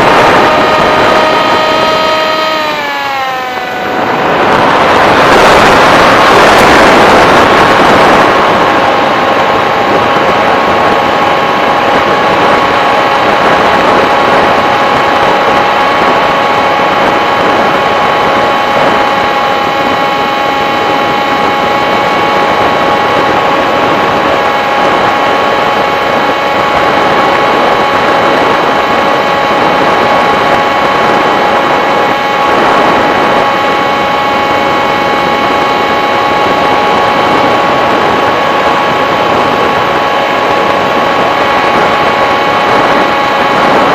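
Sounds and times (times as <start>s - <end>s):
model aircraft motor whining: 0.0s - 43.9s.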